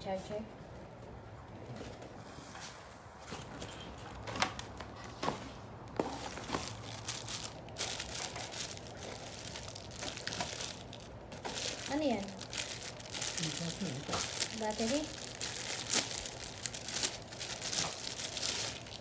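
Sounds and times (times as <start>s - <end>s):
packaging crinkling and rustling: 3.4s - 19.0s.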